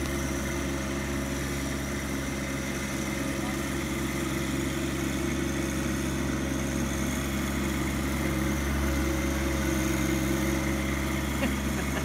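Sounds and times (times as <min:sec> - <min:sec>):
tractor engine humming: 0:00.0 - 0:12.0.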